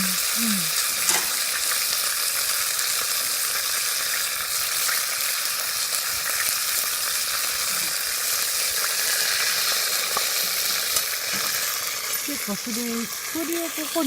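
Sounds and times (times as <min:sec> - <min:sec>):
food sizzling: 0:00.0 - 0:14.0.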